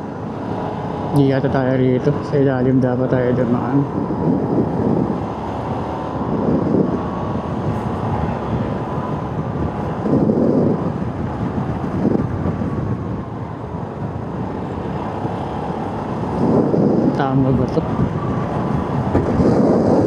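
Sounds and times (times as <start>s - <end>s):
road noise: 0.0s - 20.0s
wind on microphone: 0.0s - 20.0s.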